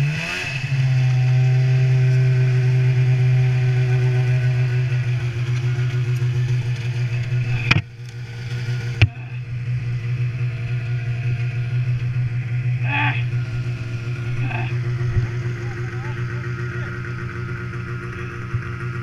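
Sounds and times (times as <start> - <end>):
snowmobile engine idling: 0.0 - 19.0.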